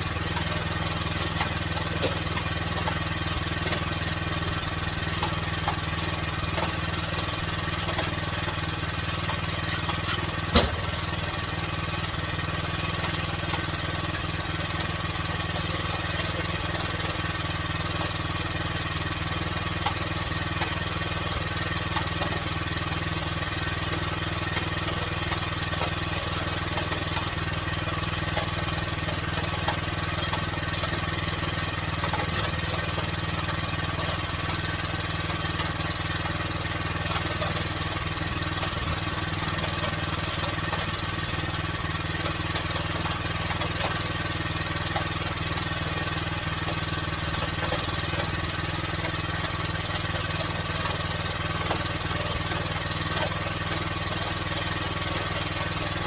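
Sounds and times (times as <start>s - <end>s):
gas engine running: 0.0s - 56.0s.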